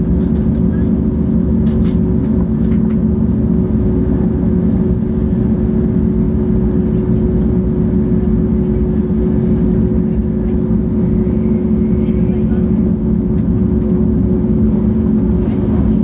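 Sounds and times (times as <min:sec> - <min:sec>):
steady low hum: 0:00.0 - 0:16.0
train carriage deep rumble: 0:00.0 - 0:16.0.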